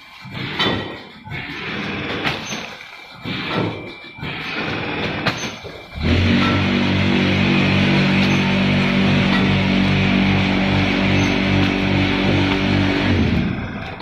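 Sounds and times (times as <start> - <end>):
packing machine running: 1.3 - 14.0.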